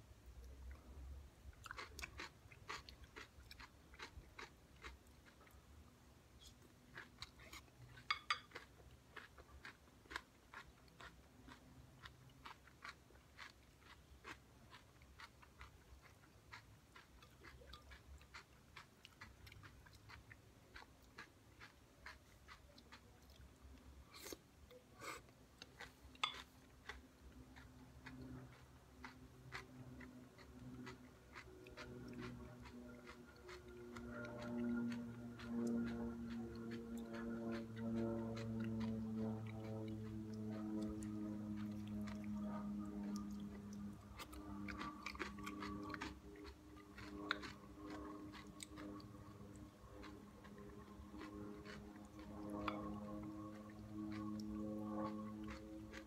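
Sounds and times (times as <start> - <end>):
chewing crunchy salad: 0.3 - 56.0.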